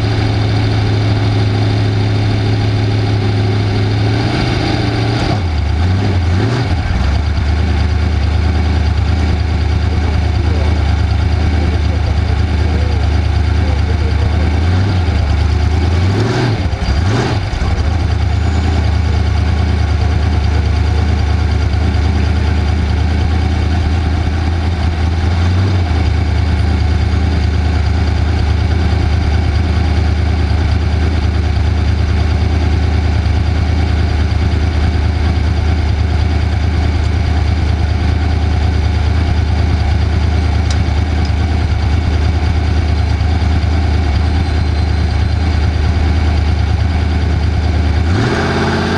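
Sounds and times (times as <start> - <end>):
race vehicle engine running: 0.0 - 48.9.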